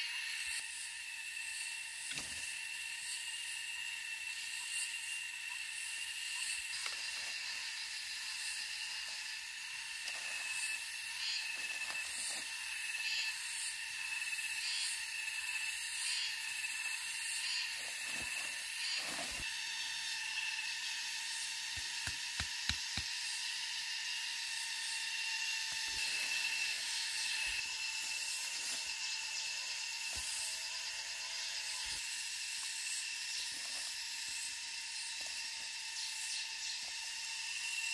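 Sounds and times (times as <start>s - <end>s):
forest insects droning: 0.0s - 37.9s.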